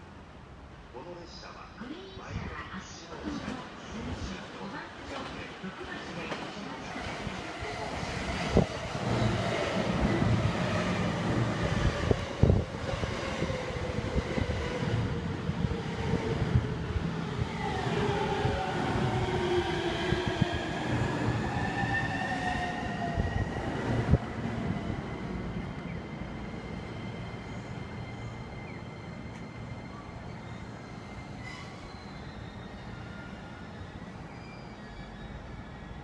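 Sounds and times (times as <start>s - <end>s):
train humming: 2.7s - 31.9s.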